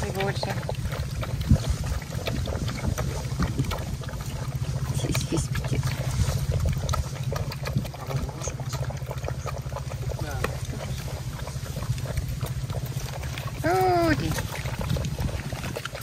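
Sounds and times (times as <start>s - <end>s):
puppies lapping and slurping milk: 0.0s - 16.0s.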